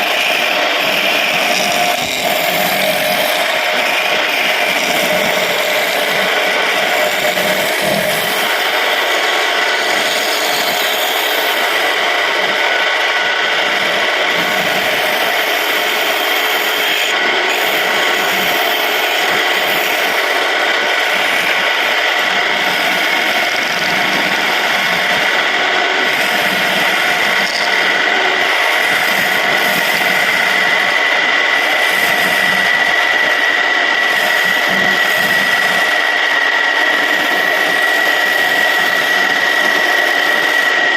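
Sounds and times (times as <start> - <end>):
tool scraping spinning wood: 0.0 - 40.9
wood lathe whining: 0.0 - 40.9.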